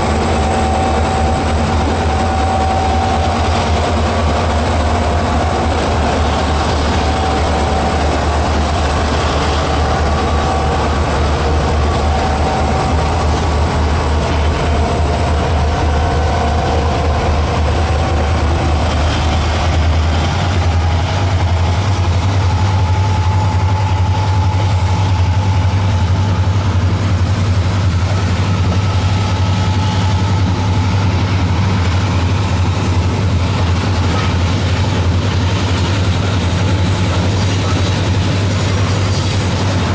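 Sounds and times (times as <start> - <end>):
locomotive engines droning: 0.0 - 39.9.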